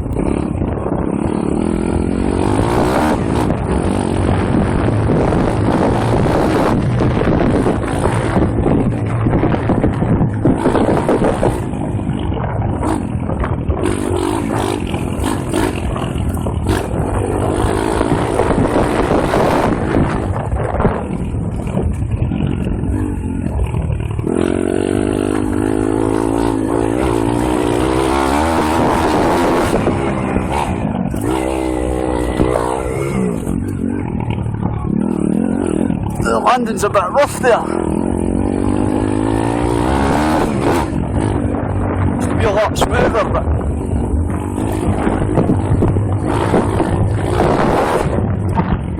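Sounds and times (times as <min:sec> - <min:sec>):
motorbike engine revving: 0:00.0 - 0:48.9
wind buffeting microphone: 0:00.0 - 0:48.9.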